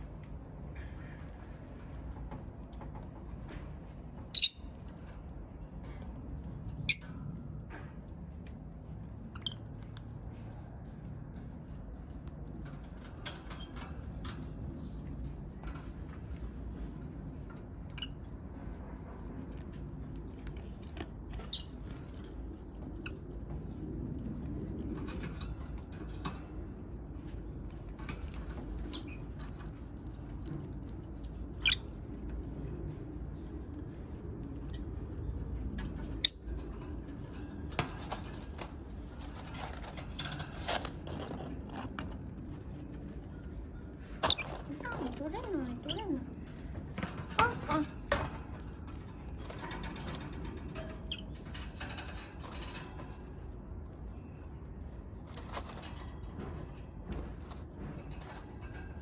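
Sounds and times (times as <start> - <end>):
birds clicking and scratching: 0.0 - 59.0
low room hum: 0.0 - 59.0.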